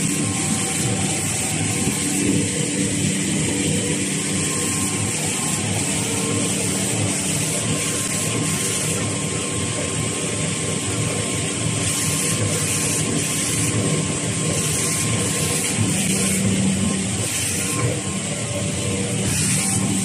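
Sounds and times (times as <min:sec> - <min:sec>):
production line machinery running: 0:00.0 - 0:20.0.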